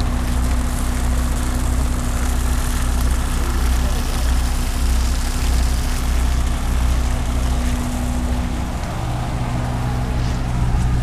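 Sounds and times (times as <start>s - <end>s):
boat engine hum: 0.0s - 11.0s.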